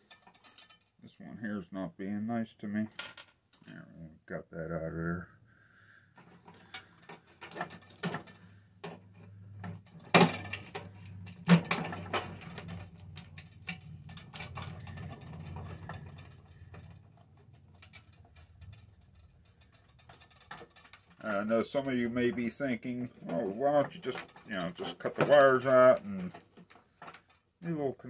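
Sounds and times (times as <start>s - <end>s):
metal parts and tools clattering: 0.0s - 1.0s, 2.9s - 3.7s, 6.2s - 27.5s.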